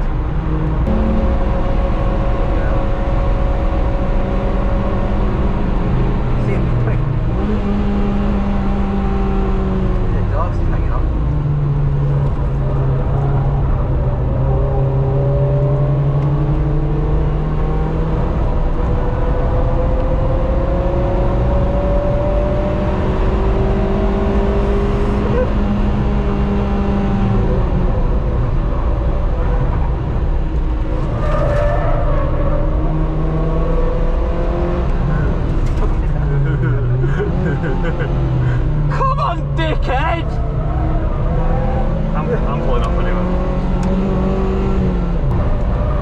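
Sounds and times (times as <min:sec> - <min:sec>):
car engine under load: 0:00.0 - 0:46.0.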